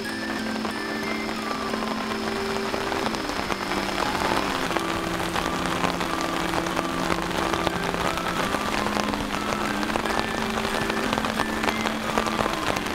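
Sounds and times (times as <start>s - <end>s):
soft faint melody: 0.0s - 12.9s
steady rain: 0.0s - 12.9s.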